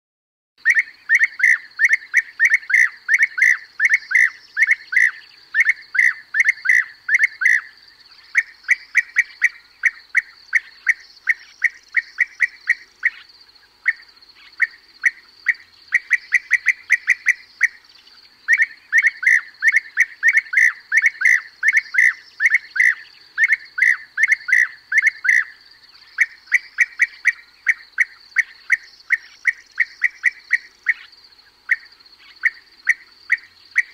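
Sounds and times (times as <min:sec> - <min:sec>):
bee-eaters calling: 0:00.6 - 0:33.9.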